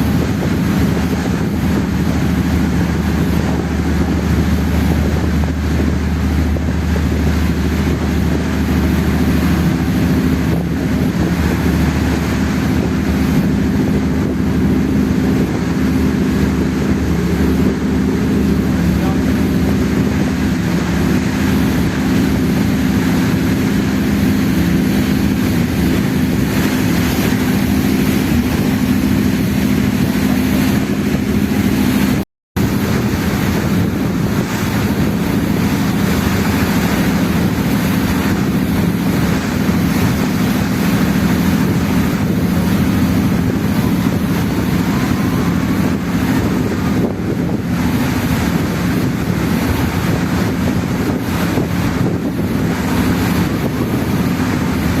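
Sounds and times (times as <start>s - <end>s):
ferry engine drone: 0.0s - 55.0s
water rushing past hull: 0.0s - 55.0s
wind buffeting microphone: 0.0s - 55.0s.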